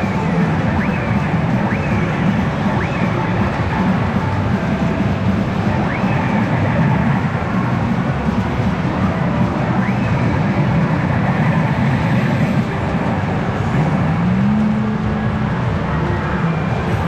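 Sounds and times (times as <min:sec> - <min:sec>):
clatter of pachinko machines: 0:00.0 - 0:14.2.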